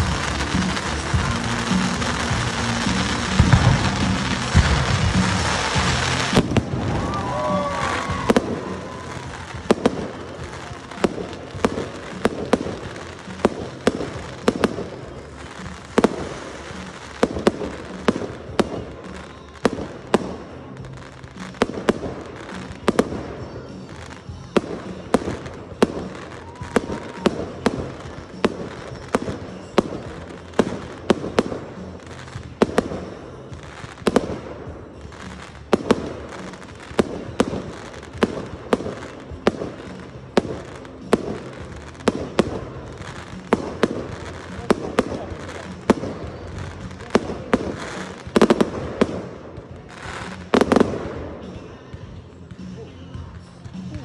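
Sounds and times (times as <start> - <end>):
firework shells bursting: 0.0 - 51.8
firework launches: 0.0 - 52.1.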